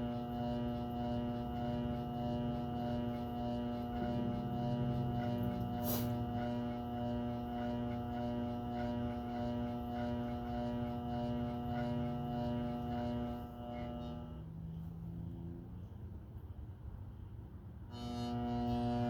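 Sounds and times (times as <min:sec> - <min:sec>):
treadmill motor humming: 0:00.0 - 0:14.5, 0:17.9 - 0:19.0.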